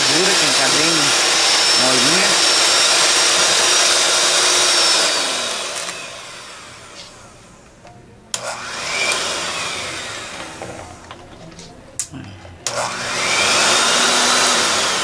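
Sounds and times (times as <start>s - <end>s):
electric hand mixer whining: 0.0s - 7.4s, 8.4s - 11.2s, 12.7s - 15.0s.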